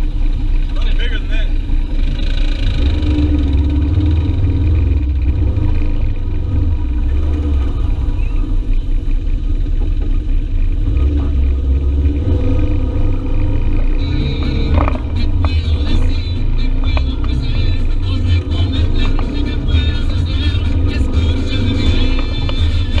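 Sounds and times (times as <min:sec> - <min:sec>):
utility vehicle engine rumbling: 0:00.0 - 0:23.0.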